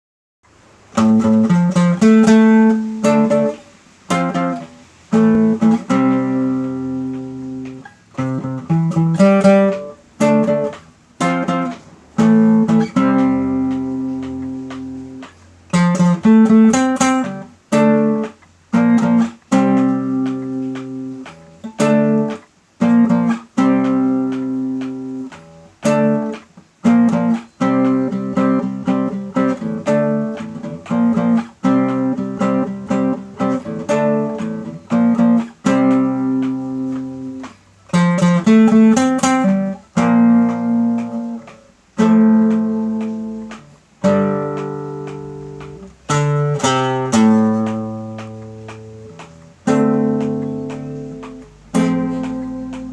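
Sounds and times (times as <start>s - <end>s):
acoustic guitar: 0.5s - 52.9s.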